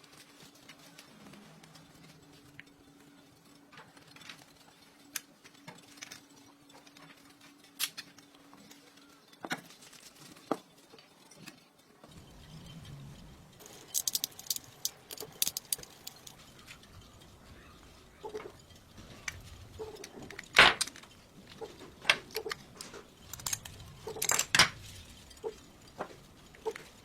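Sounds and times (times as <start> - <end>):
small parts clicking and tapping: 0.0 - 27.0.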